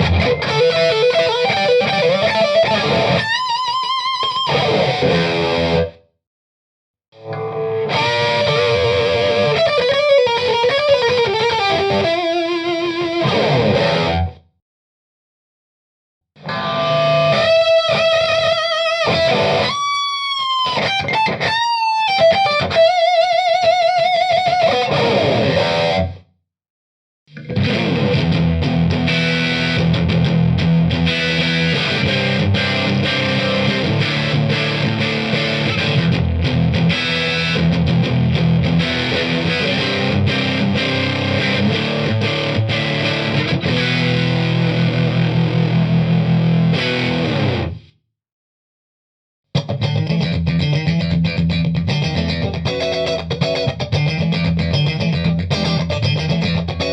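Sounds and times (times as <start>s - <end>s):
distorted electric guitar: 0.0s - 6.1s, 7.1s - 14.5s, 16.4s - 26.3s, 27.3s - 48.0s, 49.6s - 56.9s.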